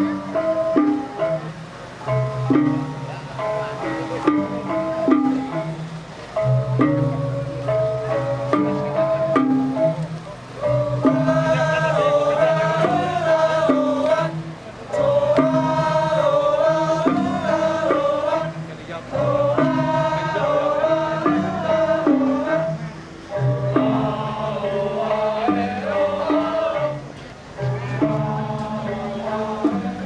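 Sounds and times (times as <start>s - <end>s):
chanted vocal melody: 0.0s - 30.0s.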